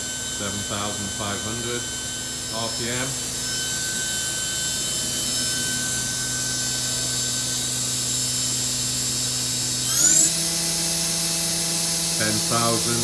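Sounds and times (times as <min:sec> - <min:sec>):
machine spindle whine: 0:00.0 - 0:13.0.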